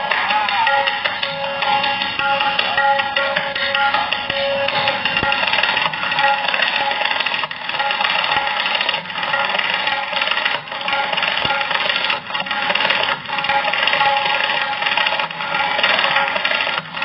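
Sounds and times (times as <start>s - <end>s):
fast tabla solo: 0.0s - 17.0s.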